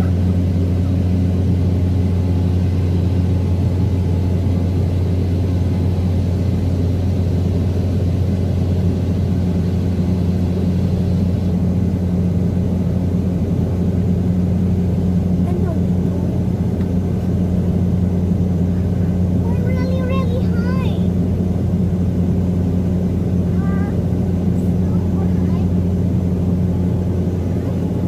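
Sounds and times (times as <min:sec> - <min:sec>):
airliner engines droning in cabin: 0:00.0 - 0:28.0.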